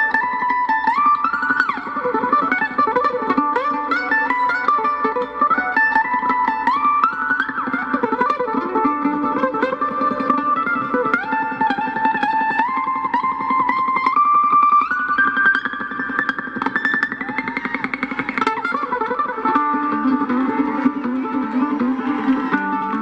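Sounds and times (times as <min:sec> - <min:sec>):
mandolin solo: 0:00.0 - 0:23.0.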